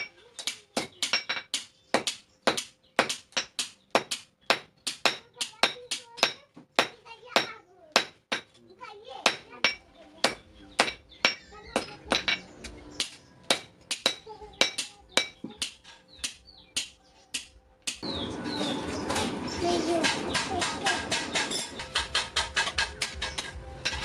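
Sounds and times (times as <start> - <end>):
hammer striking metal on anvil: 0.0 - 8.6, 9.2 - 18.0, 20.0 - 24.0.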